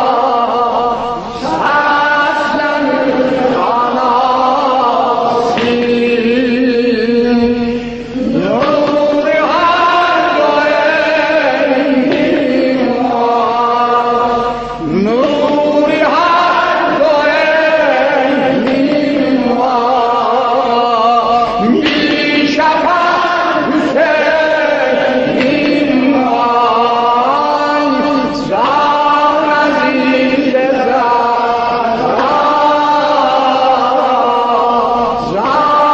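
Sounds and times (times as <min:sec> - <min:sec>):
man singing a chanted lament: 0:00.0 - 0:35.9.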